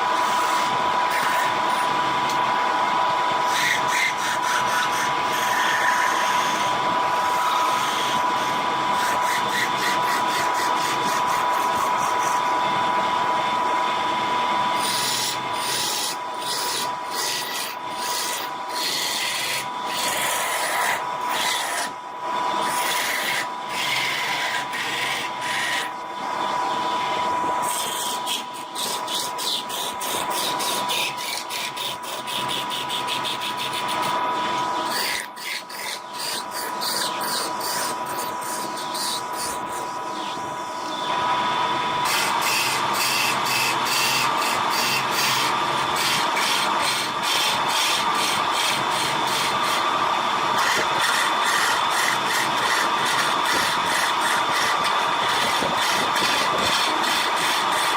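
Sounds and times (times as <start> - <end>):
tool scraping spinning wood: 0.0 - 57.9
wood lathe whining: 0.0 - 57.9.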